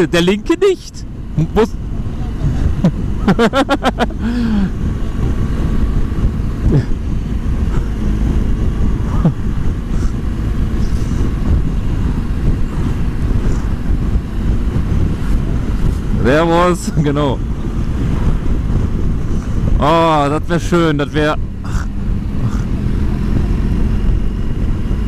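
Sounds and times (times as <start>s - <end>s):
motorcycle engine rumble: 0.0s - 25.0s
wind rush on microphone: 0.0s - 25.0s.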